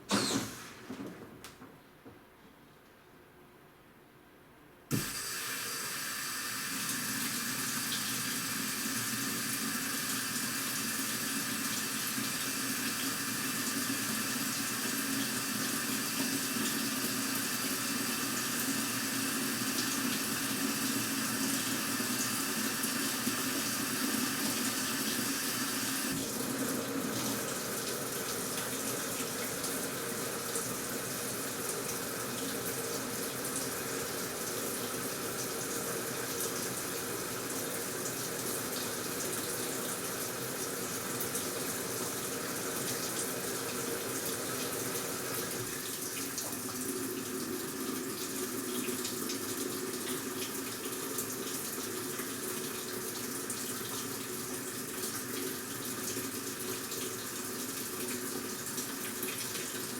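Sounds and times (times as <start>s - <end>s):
water filling washing machine: 0.0s - 1.4s, 4.9s - 59.9s.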